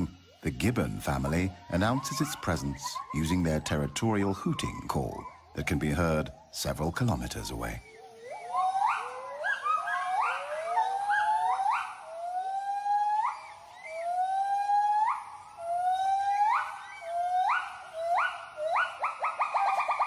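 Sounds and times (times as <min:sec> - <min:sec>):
gibbons hooting song: 0:00.0 - 0:20.0.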